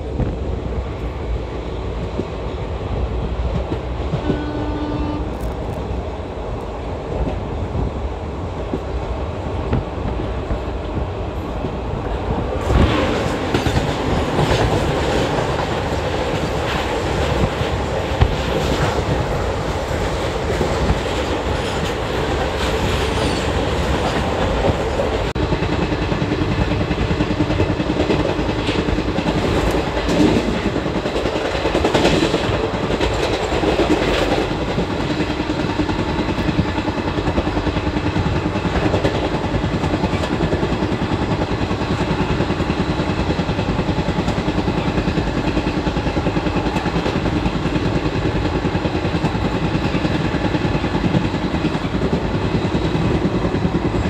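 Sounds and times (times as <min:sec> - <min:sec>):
clickety-clack over rail joints: 0:00.0 - 0:54.0
passing freight train clatter: 0:00.0 - 0:54.0
train wheels on rails: 0:00.0 - 0:54.0.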